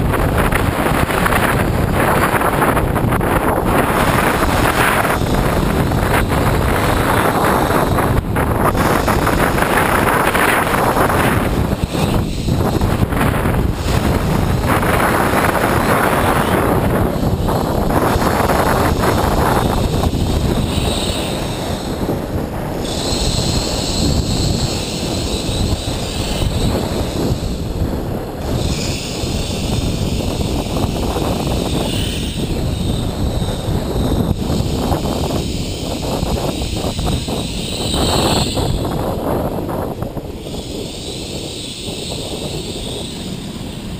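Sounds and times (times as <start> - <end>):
tram rumble: 0.0 - 43.9
wind on microphone: 0.0 - 43.9
high hiss: 3.5 - 39.4.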